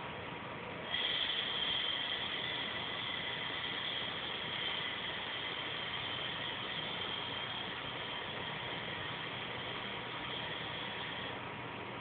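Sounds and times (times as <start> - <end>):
compressed-air gun hissing: 0.9 - 11.4.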